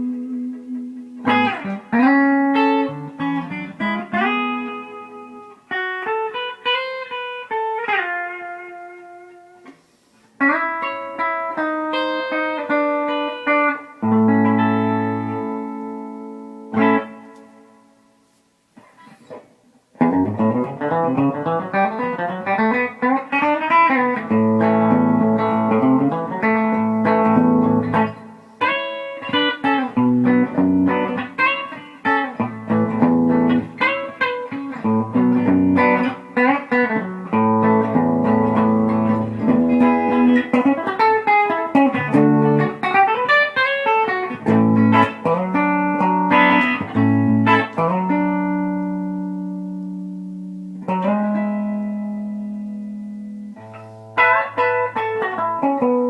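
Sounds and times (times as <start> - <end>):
electric guitar lines and chords: 0.0 - 56.0.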